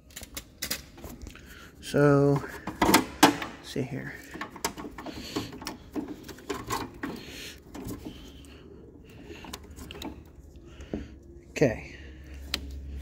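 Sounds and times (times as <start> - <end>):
hand clicking and rustling among wiring: 0.0 - 11.4, 12.2 - 13.0
low steady hum: 0.0 - 13.0.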